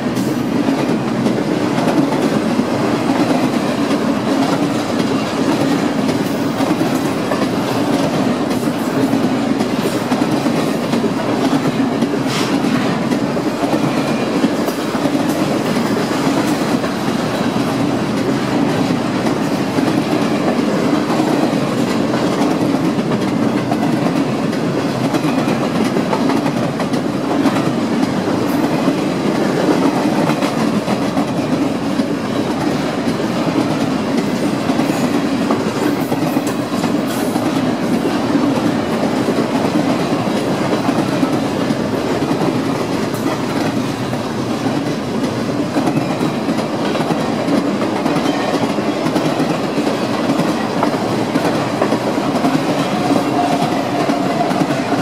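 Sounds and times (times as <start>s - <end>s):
steel wheels rumbling on rail: 0.0s - 55.0s
wheels clickety-clack over track: 0.0s - 55.0s.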